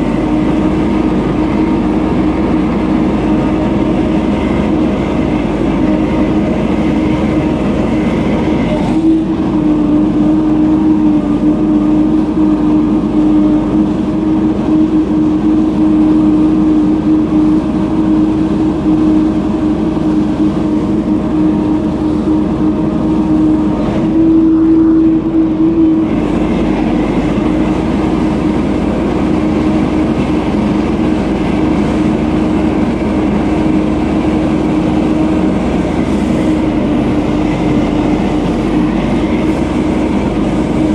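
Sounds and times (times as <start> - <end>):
leaf blower engine running: 0.0 - 40.9.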